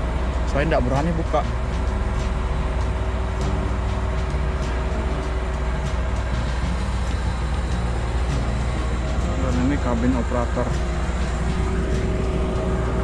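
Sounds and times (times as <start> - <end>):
diesel engine idling: 0.0 - 13.0
faint steady hum: 0.0 - 13.0.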